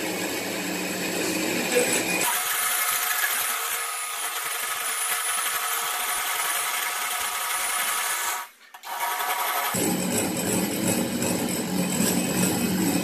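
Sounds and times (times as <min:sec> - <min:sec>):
electric hand mixer whine: 0:00.0 - 0:13.0.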